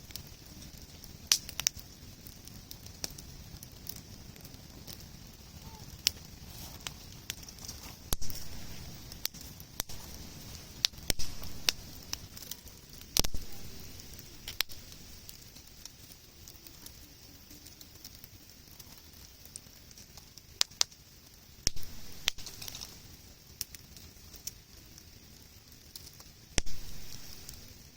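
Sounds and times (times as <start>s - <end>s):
campfire crackling: 0.0s - 27.9s
sharp pops from fire: 0.0s - 27.9s.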